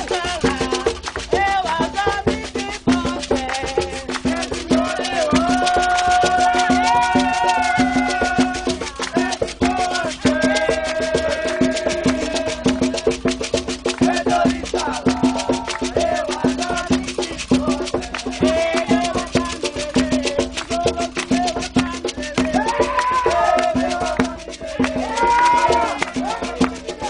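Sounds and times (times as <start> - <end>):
drums beating fast rhythm: 0.0 - 27.0
people singing: 0.0 - 27.0.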